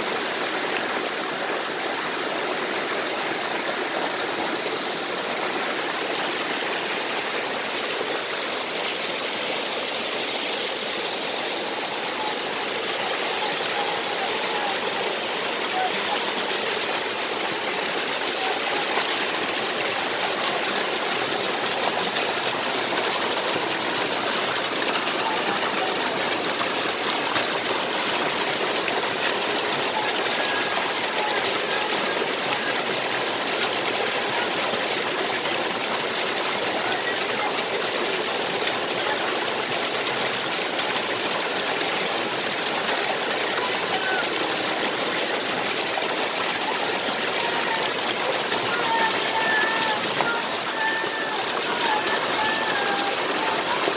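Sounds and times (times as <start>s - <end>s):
waterfall and stream rushing: 0.0s - 53.9s.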